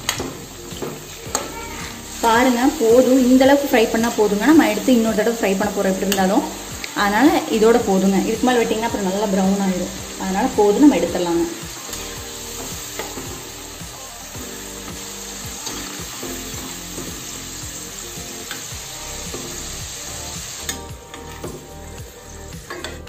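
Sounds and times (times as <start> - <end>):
potatoes sizzling in hot oil: 0.0 - 23.0.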